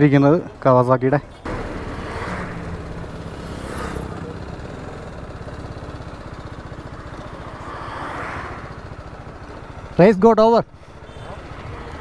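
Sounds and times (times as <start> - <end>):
motorcycle engine idling: 1.3 - 12.0.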